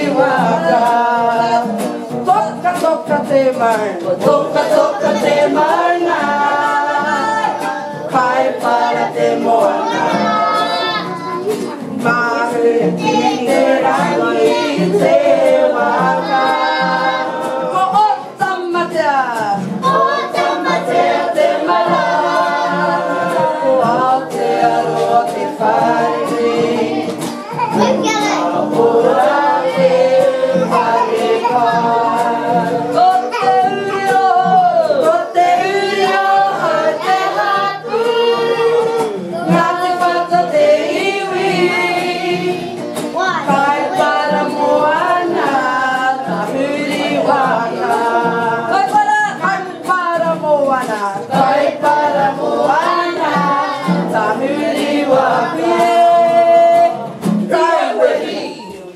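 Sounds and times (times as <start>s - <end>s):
group singing: 0.0s - 58.9s
strummed acoustic guitar: 0.0s - 58.9s.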